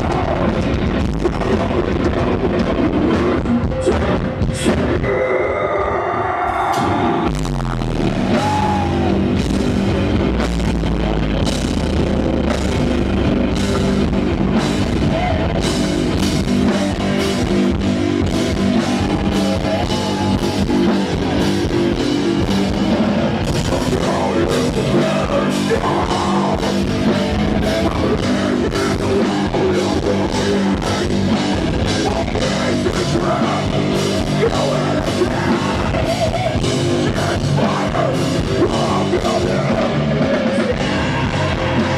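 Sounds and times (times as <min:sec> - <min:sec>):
drum kit: 0:00.0 - 0:05.3, 0:06.5 - 0:41.9
person singing: 0:00.0 - 0:07.6, 0:08.2 - 0:09.4, 0:14.6 - 0:17.5, 0:18.2 - 0:41.9
electric guitars: 0:00.0 - 0:41.9.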